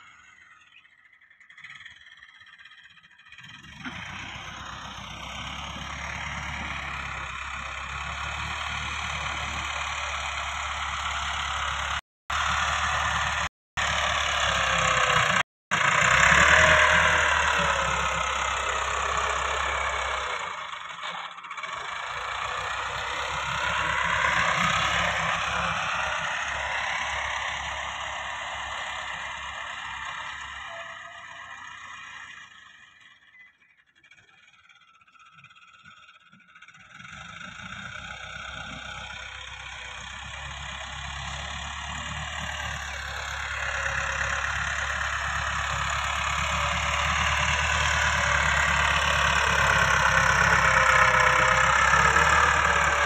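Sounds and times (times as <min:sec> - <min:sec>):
tractor diesel engine: 0:00.0 - 0:35.9, 0:36.6 - 0:53.0.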